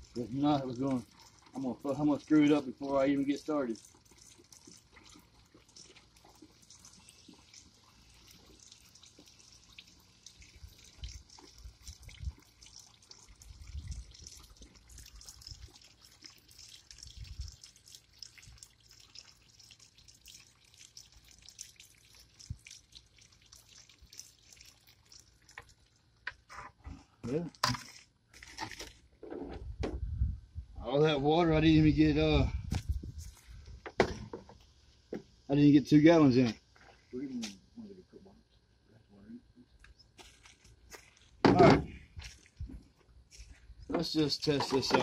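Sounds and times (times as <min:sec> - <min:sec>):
water trickling into plastic tank: 0:00.0 - 0:30.3, 0:31.8 - 0:36.5, 0:39.7 - 0:45.0.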